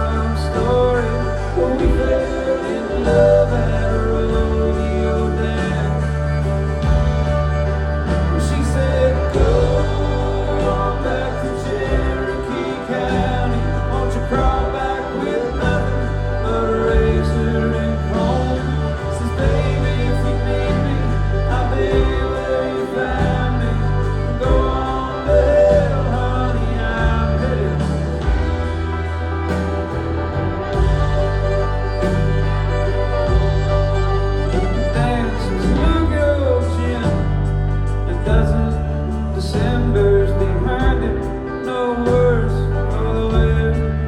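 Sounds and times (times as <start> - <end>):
country band playing live: 0.0 - 44.0
lead vocal singing: 0.0 - 44.0.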